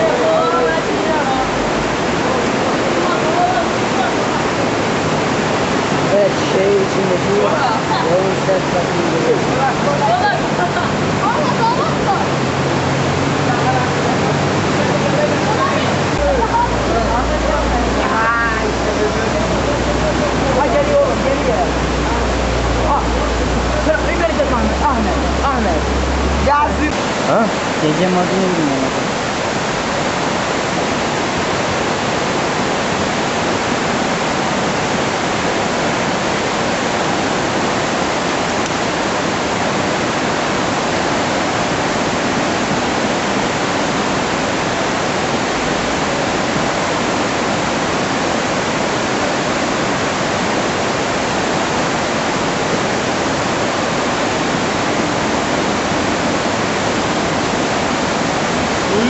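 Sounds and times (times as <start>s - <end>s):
floodwater rushing: 0.0s - 59.0s.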